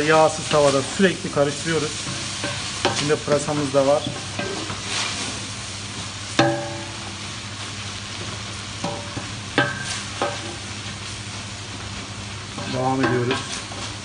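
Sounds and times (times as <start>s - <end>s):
onions sizzling in a pot: 0.0s - 14.0s
wooden spoon stirring onions: 0.0s - 14.0s.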